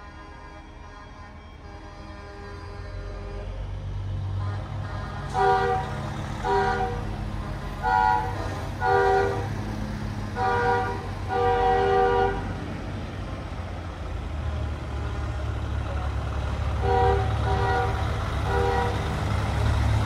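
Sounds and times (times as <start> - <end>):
truck air horn blasts: 0.0 - 12.6, 16.5 - 20.0
diesel engines rumbling: 0.0 - 20.0.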